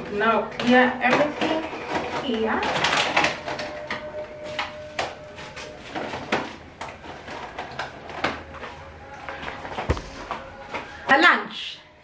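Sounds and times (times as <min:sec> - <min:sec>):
plastic bags rustling: 0:00.0 - 0:11.2.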